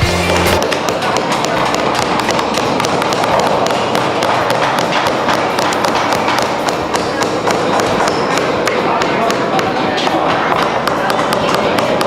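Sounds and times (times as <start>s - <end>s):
hammers tapping on wood: 0.0s - 12.0s.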